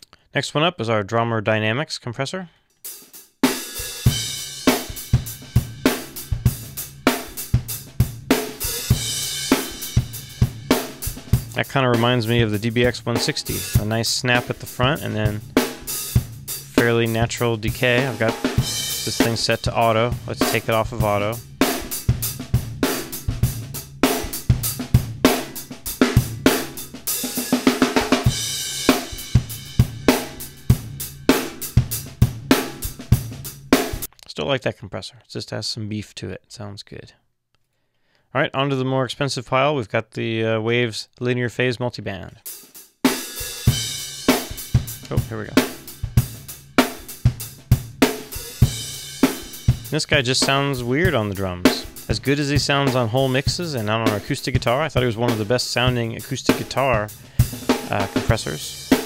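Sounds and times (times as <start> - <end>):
drum kit playing a groove: 2.9 - 34.1, 42.4 - 59.0.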